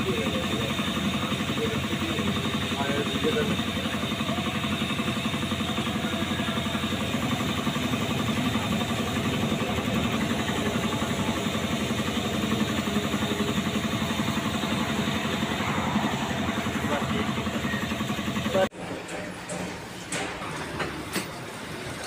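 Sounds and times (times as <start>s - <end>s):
engine idling: 0.0s - 18.7s.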